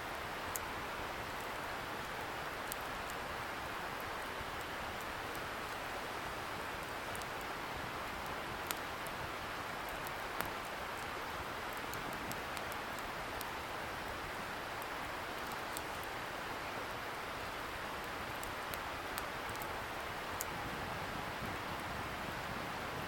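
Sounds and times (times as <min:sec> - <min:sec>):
campfire crackling and popping: 0:00.1 - 0:20.6.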